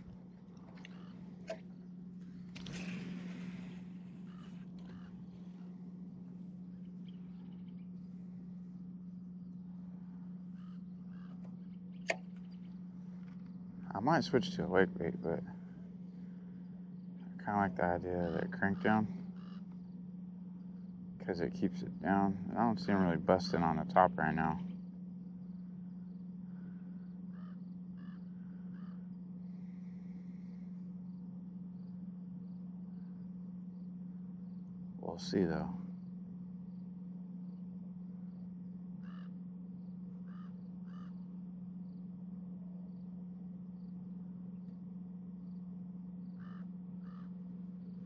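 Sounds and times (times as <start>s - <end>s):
faint bird calls: 0.0s - 48.0s
insect chirping: 0.0s - 48.0s
steady low hum: 0.0s - 48.0s.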